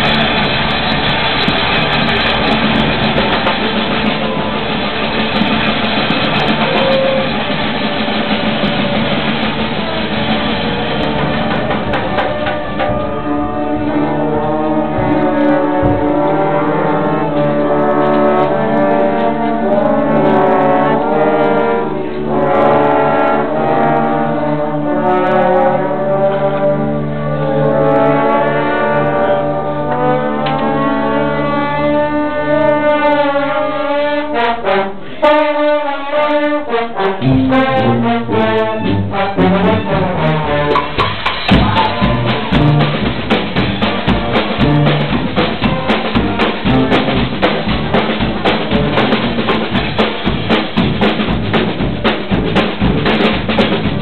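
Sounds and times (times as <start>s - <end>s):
brass band playing loudly: 0.0s - 54.0s.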